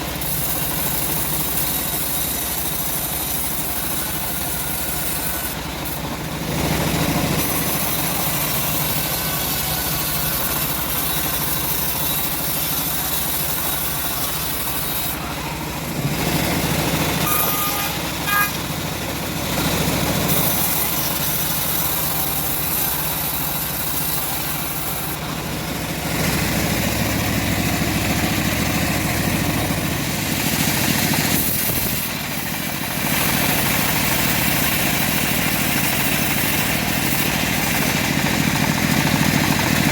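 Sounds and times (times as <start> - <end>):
bandsaw sawmill cutting log: 0.0 - 39.9.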